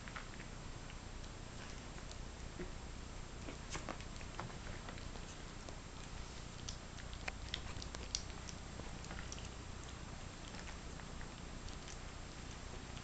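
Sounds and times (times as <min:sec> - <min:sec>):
dogs licking and suckling: 0:00.0 - 0:13.0
faint low hum: 0:00.0 - 0:13.0.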